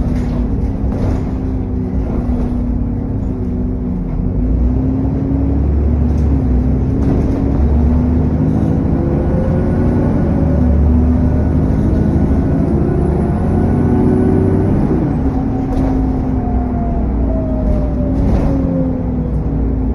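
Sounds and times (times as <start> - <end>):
vehicle engine running: 0.0 - 16.7.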